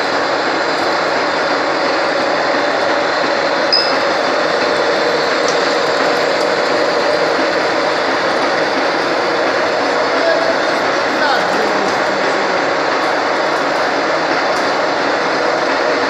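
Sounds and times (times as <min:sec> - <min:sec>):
machine tool running: 0:00.0 - 0:16.0.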